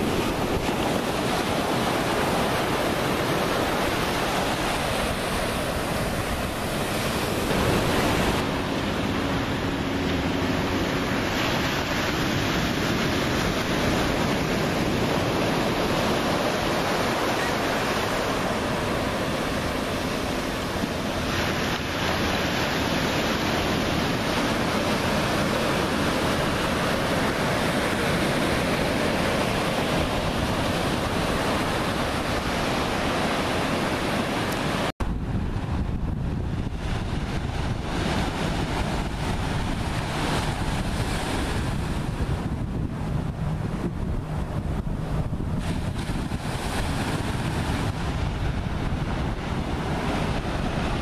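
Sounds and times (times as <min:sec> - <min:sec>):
ocean waves breaking: 0:00.0 - 0:51.0.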